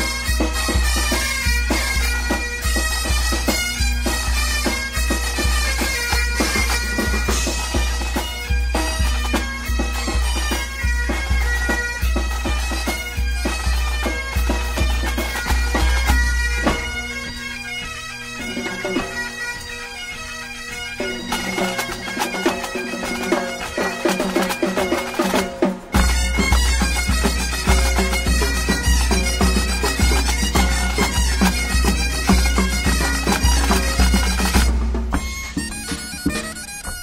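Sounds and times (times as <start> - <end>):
bagpipes playing dance tune: 0.0 - 37.0.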